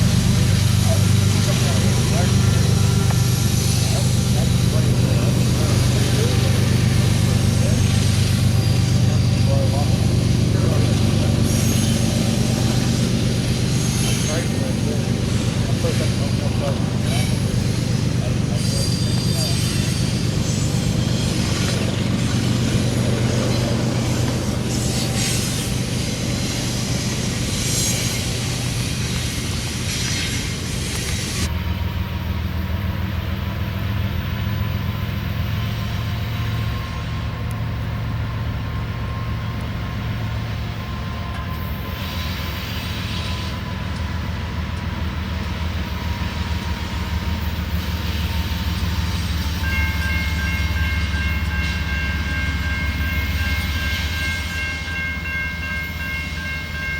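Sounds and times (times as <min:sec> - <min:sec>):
diesel locomotive engine hum: 0:00.0 - 0:56.9
railcars rumbling on rails: 0:00.0 - 0:56.9.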